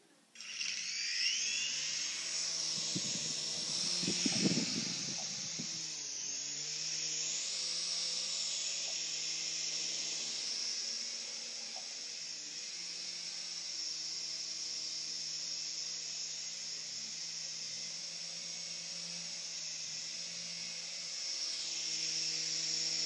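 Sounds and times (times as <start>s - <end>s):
toy helicopter rotors whirring: 0.3s - 23.0s.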